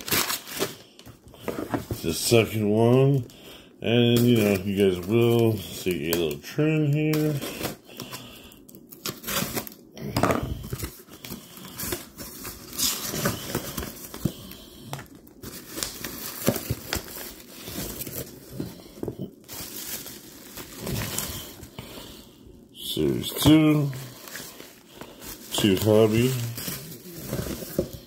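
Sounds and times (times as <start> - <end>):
bubble wrap crinkling and rustling: 0.0 - 22.2, 22.8 - 28.0.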